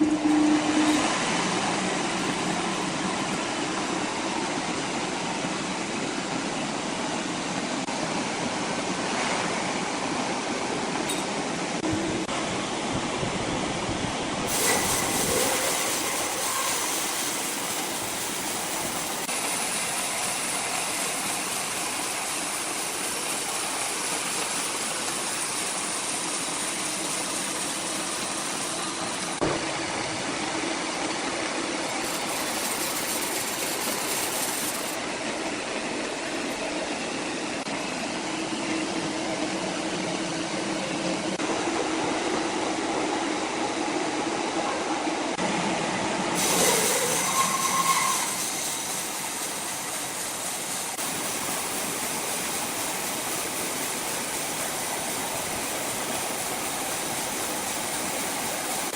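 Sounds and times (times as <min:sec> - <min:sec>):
sawmill machinery running: 0:00.0 - 0:58.9.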